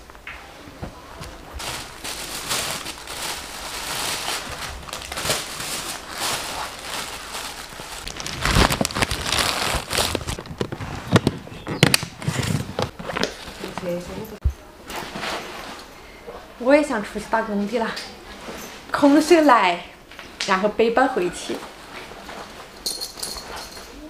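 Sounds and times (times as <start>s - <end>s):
clothes and plastic bags rustling: 0.0s - 24.0s.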